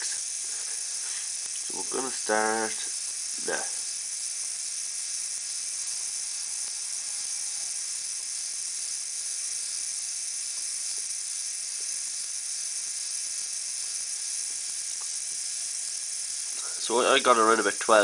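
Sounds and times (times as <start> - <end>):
gearbox whine: 0.0 - 18.0
small electric motor whirring: 0.0 - 18.0.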